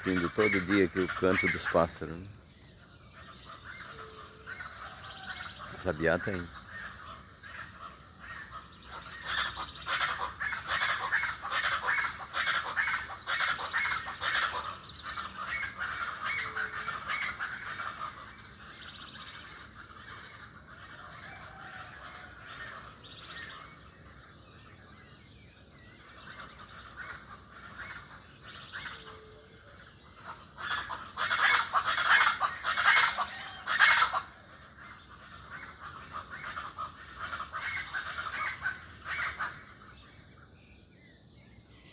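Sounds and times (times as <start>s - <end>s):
birds chirping quietly: 0.0s - 41.9s
birds harsh rapid calls: 0.0s - 41.9s.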